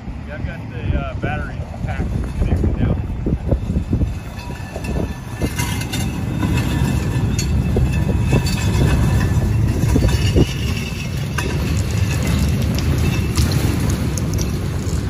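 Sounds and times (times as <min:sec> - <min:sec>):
railcar wheels rumbling on rails: 0:00.0 - 0:15.0.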